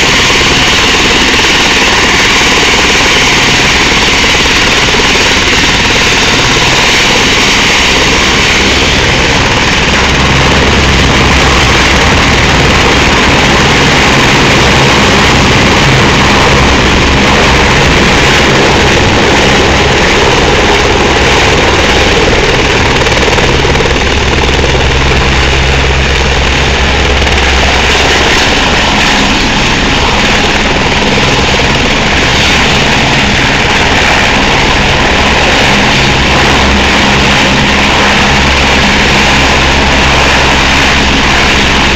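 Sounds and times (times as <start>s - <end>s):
helicopter rotor beat: 0.0s - 41.9s
helicopter turbine whine: 0.0s - 41.9s.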